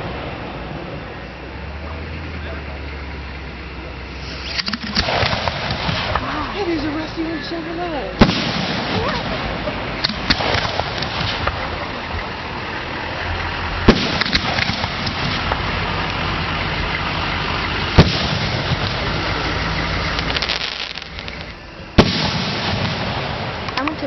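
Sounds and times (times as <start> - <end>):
fireworks crackling: 2.4 - 24.0
fireworks booming: 4.1 - 24.0.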